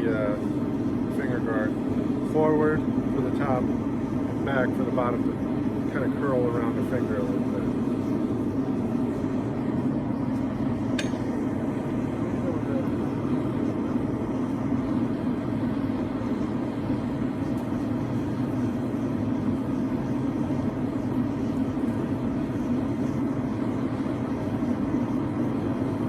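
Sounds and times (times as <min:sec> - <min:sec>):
forge burner rushing: 0:00.0 - 0:26.0.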